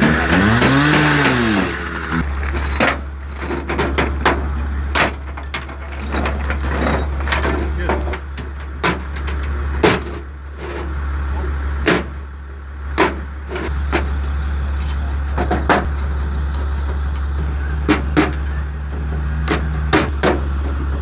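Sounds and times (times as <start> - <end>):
sharp knocks and clanks: 0.0 - 10.9, 11.8 - 12.2, 13.0 - 14.2, 15.3 - 21.0
engine running at low pitch: 0.0 - 21.0.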